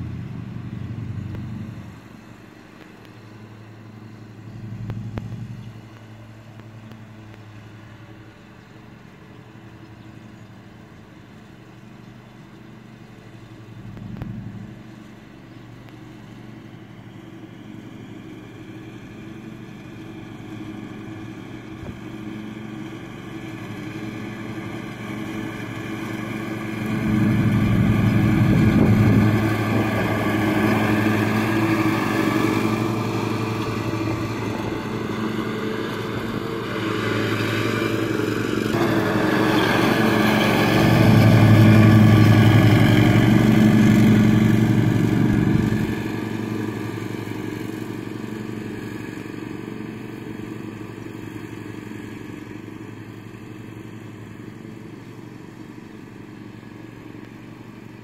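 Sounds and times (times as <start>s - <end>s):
riding mower engine cutting grass: 0.0s - 58.0s.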